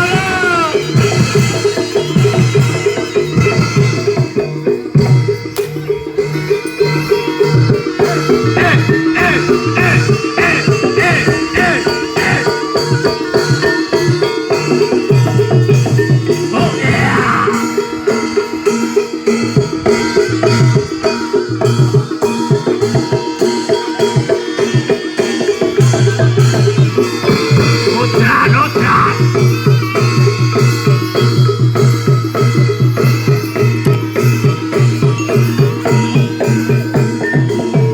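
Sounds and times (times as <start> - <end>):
drums: 0.0 - 37.9
struck pitched percussion: 0.0 - 37.9.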